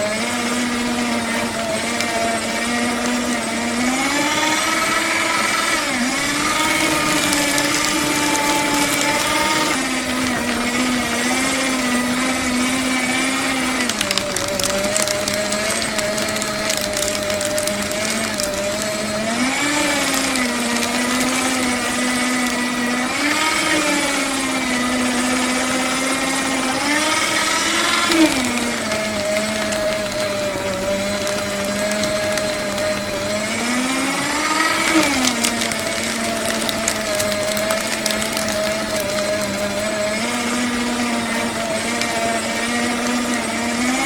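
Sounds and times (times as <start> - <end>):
paper crackling as it is cut: 0.0 - 44.0
paper shredder motor whine: 0.0 - 44.0.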